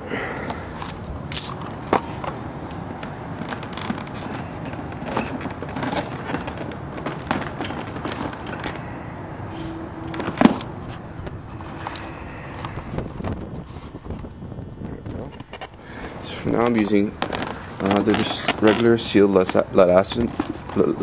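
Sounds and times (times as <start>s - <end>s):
bag rustling and scraping: 3.2s - 21.0s.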